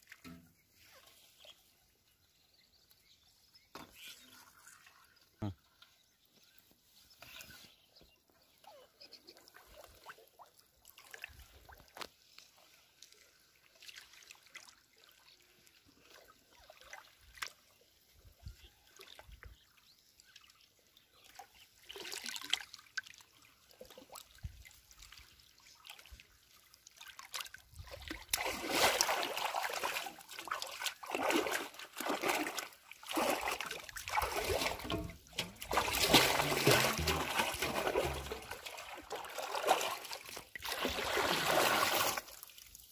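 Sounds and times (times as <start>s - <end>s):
pond water sloshing and splashing: 0.0s - 42.9s.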